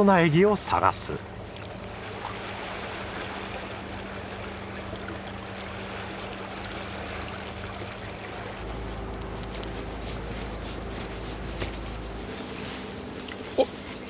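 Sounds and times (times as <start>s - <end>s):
sea water lapping against concrete: 0.6s - 14.0s
low rumble: 1.2s - 13.2s.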